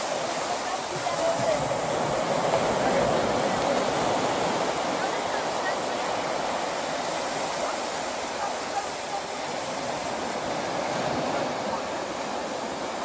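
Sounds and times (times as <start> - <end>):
small waves breaking on a beach: 0.0 - 13.0.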